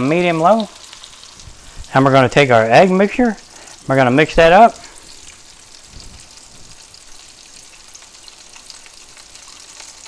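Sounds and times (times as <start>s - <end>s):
oil crackling and popping: 0.0s - 10.0s
sausages sizzling in oil: 0.0s - 10.0s.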